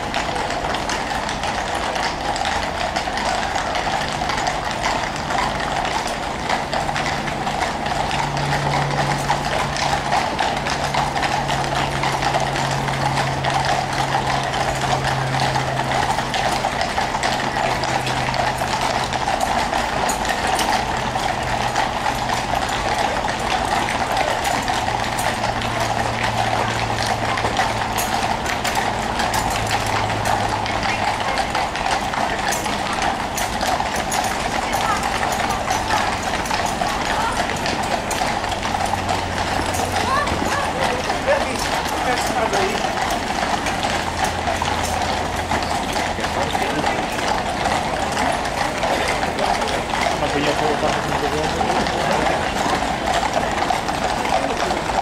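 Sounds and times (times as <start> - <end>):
horse hooves on asphalt: 0.0 - 55.0
vehicle engine humming: 0.0 - 55.0.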